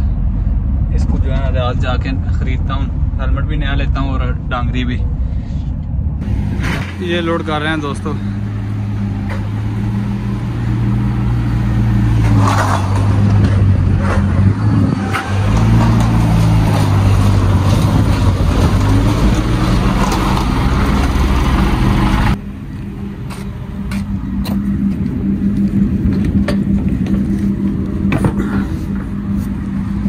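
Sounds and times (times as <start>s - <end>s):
truck engine humming: 0.0s - 30.0s.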